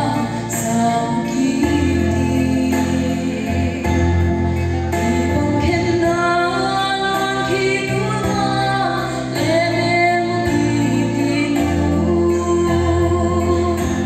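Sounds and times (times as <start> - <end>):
sustained instrumental accompaniment: 0.0 - 14.0
woman singing gospel song: 0.0 - 14.0.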